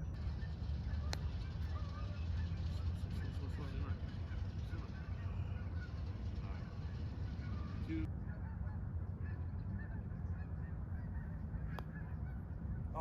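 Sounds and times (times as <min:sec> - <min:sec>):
distant geese honking: 0:00.0 - 0:13.0.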